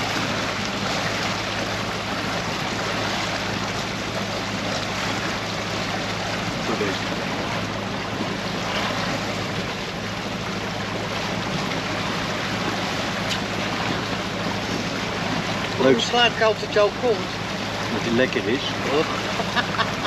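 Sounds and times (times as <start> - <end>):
boat engine humming: 0.0 - 20.0
water rushing along hull: 0.0 - 20.0.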